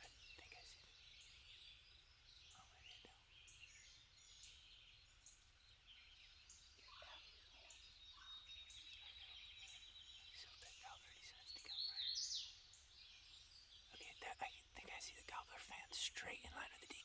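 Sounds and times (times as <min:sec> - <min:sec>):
songbirds chirping and whistling: 0:00.0 - 0:17.0.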